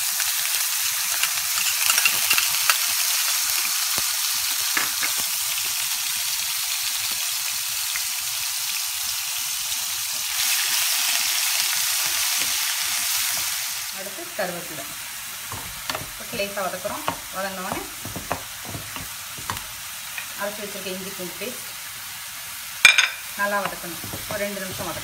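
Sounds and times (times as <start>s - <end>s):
onion paste sizzling in oil: 0.0s - 25.0s.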